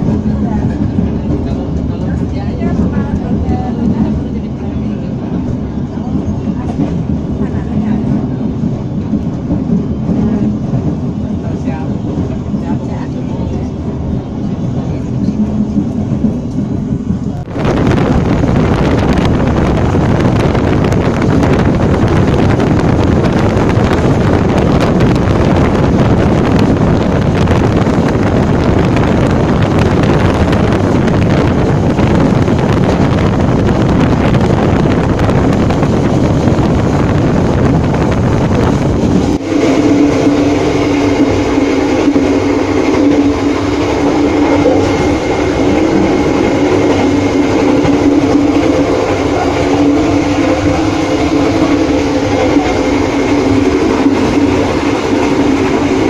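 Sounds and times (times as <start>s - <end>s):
train wheels rumbling on rails: 0.0s - 56.0s
wind rushing at open window: 0.0s - 56.0s.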